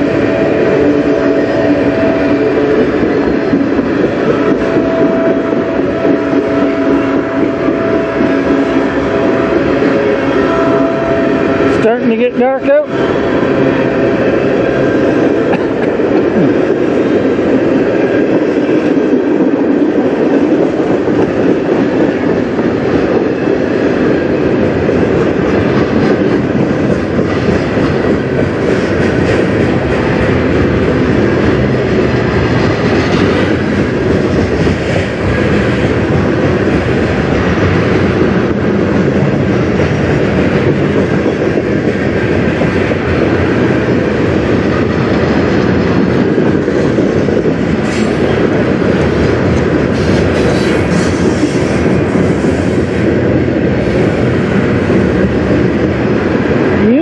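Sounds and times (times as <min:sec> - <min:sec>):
steel wheels running on rails: 0:00.0 - 0:57.0.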